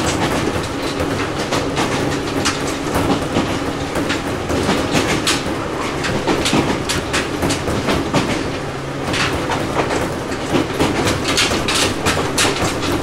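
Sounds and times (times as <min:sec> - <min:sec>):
train running hum: 0:00.0 - 0:13.0
wheels clicking over rail joints: 0:00.0 - 0:13.0.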